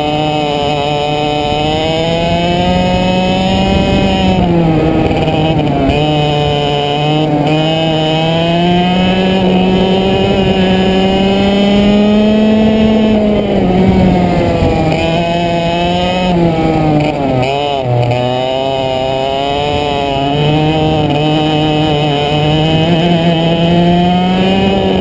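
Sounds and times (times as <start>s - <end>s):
go-kart engine at high revs: 0.0s - 25.0s.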